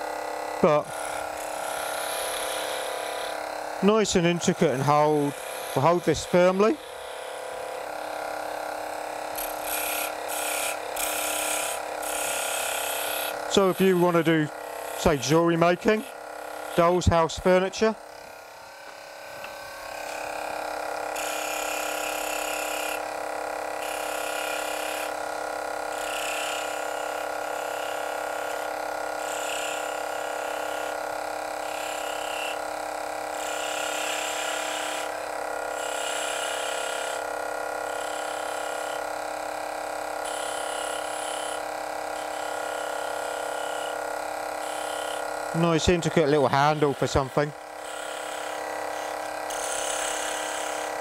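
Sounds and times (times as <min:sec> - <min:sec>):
lathe motor whining: 0:00.0 - 0:51.0
chisel scraping spinning wood: 0:00.6 - 0:08.5, 0:09.3 - 0:20.4, 0:21.1 - 0:23.1, 0:23.8 - 0:39.2, 0:39.8 - 0:51.0.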